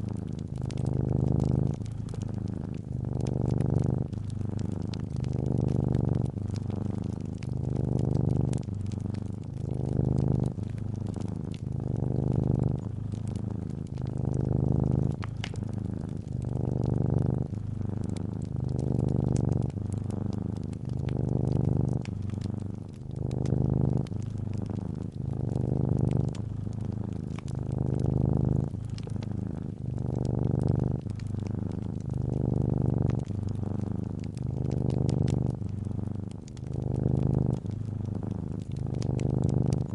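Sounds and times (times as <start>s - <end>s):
cat purring: 0.0s - 39.9s
fireplace fire crackling: 0.0s - 39.9s.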